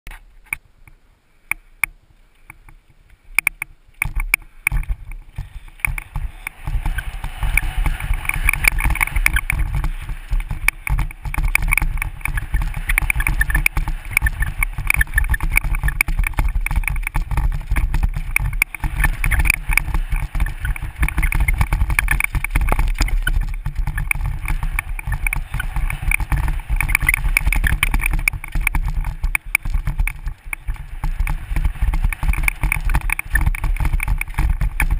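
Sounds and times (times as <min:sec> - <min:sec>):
clicks: 0:00.1 - 0:34.9
bike rattling: 0:02.5 - 0:34.9
tyres crunching over dirt: 0:04.0 - 0:34.9
wind on microphone: 0:04.0 - 0:34.9.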